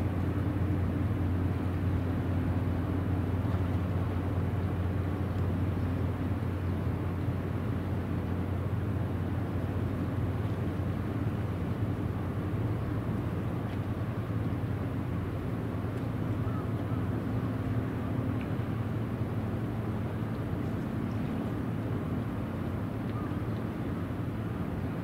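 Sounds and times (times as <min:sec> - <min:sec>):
ship engine droning: 0:00.0 - 0:25.0
water noise: 0:00.0 - 0:25.0
wind: 0:00.0 - 0:25.0.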